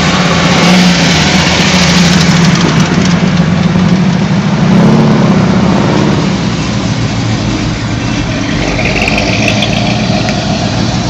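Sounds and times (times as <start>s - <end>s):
car engines passing slowly: 0.0s - 11.0s.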